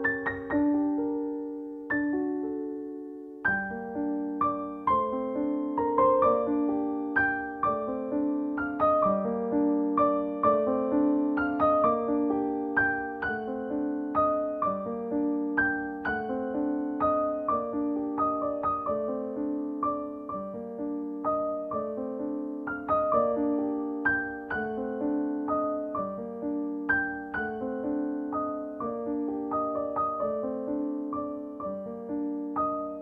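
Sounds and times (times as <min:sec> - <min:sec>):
keyboard melody: 0:00.0 - 0:33.0.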